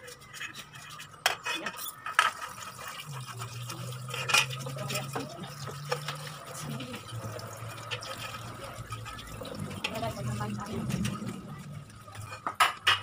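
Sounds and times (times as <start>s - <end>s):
wet laundry water sounds: 0.0s - 13.0s.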